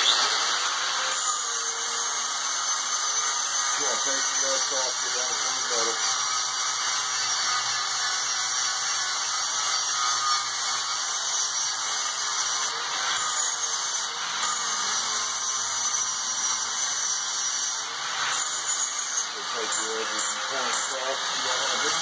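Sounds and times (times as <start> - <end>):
angle grinder grinding steel: 0.0 - 22.0.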